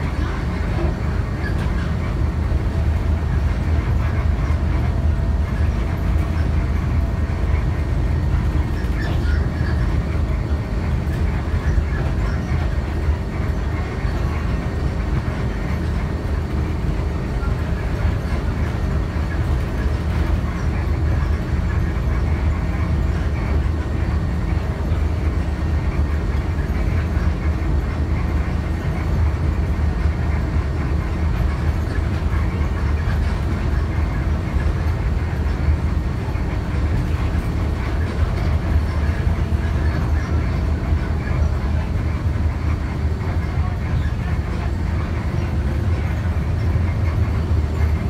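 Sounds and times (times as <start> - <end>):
bus engine and road noise: 0.0 - 48.0.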